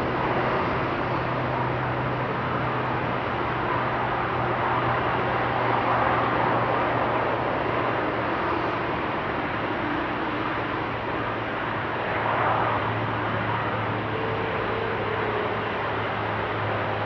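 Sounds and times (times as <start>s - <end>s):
jet engines roaring on takeoff: 0.0s - 17.0s.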